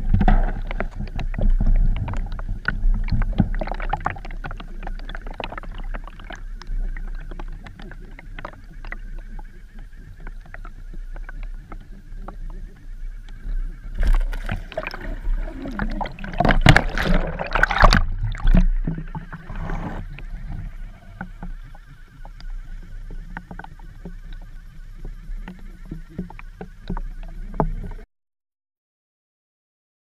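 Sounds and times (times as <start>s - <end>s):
low hum: 0.0s - 28.0s
underwater water churning: 0.0s - 28.0s.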